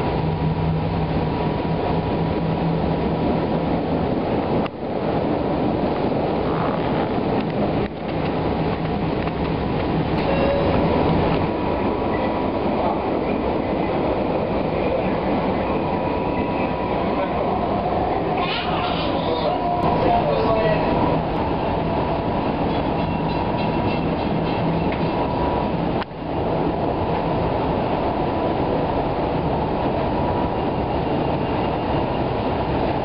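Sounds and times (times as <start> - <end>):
wheels rumbling on rails: 0.0 - 33.0.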